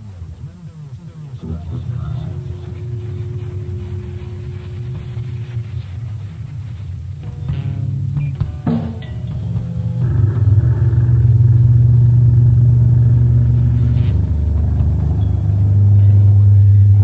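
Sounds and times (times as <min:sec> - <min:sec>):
loud distorted buzzing drone: 0:01.4 - 0:17.0.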